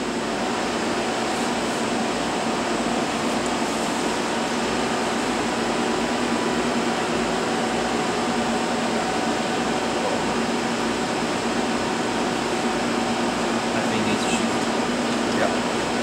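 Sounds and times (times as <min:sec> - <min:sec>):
machinery and cooling fans humming: 0:00.0 - 0:16.0.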